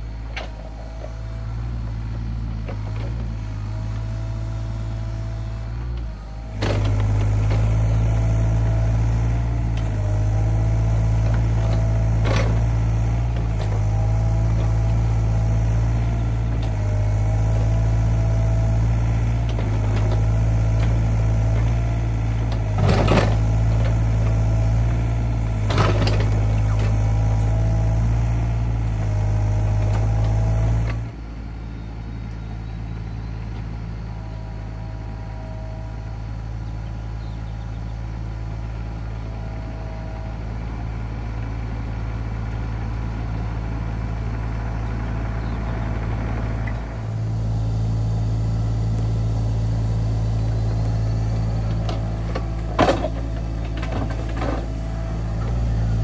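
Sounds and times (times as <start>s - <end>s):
diesel engine running under load: 0.0s - 56.0s
hydraulic whine: 0.1s - 56.0s.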